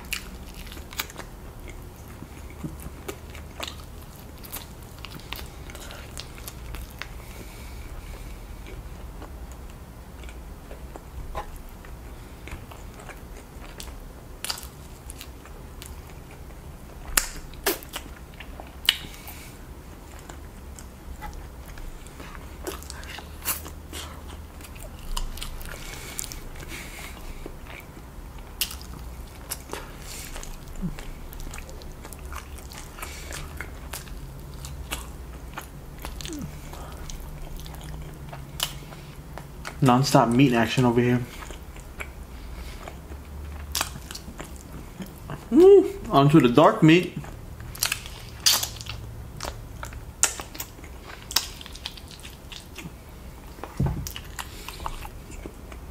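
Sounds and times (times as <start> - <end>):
close-miked chewing and biting: 0.0 - 45.6, 46.2 - 55.9
low steady hum: 0.0 - 55.9.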